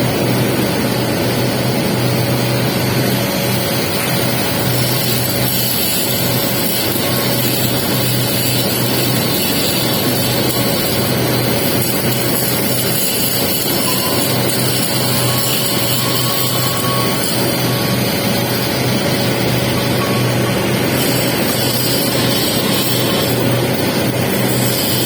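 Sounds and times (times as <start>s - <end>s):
welding arc crackling and hissing: 0.2s - 25.0s.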